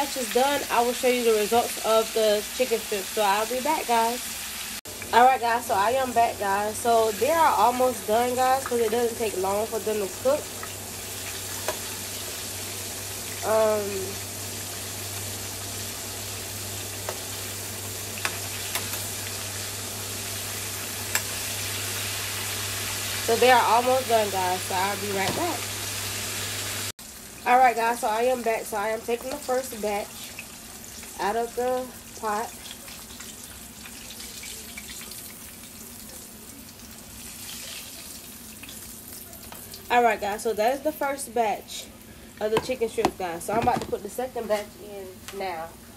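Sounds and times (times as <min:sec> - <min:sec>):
deep-frying sizzle: 0:00.0 - 0:45.9.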